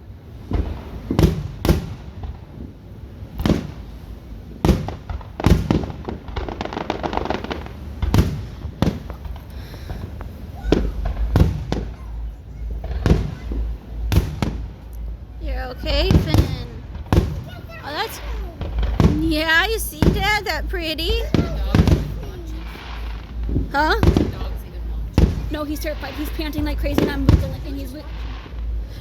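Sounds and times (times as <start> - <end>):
firework bangs: 0.0 - 29.0
fireworks crackling: 0.0 - 29.0
low rumbling: 0.0 - 29.0.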